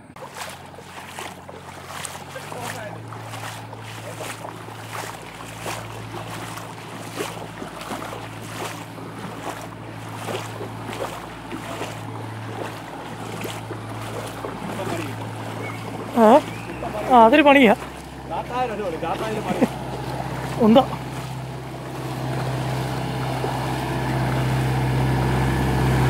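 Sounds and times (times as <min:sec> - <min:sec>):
floodwater sloshing and lapping: 0:00.0 - 0:26.0
steady low hum: 0:00.0 - 0:26.0.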